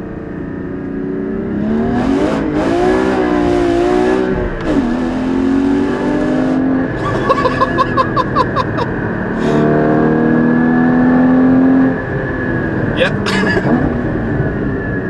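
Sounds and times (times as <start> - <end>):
car engine revving: 1.4 - 15.0.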